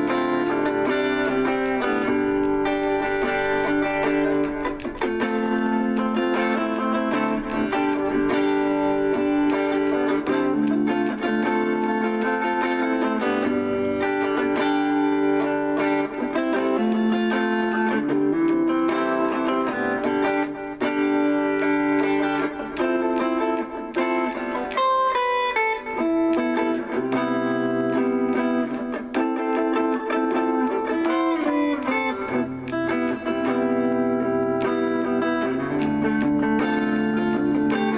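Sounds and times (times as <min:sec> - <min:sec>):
clean electric guitar jazz: 0:00.0 - 0:37.9.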